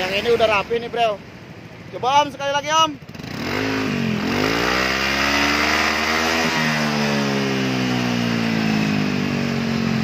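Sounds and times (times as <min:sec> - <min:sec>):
scooter engine revving: 0:00.0 - 0:10.0.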